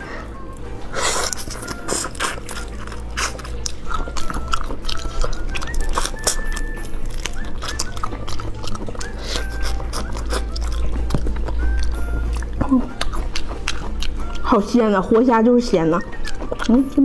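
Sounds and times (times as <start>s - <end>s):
crunchy chewing of shrimp: 0.4s - 17.0s.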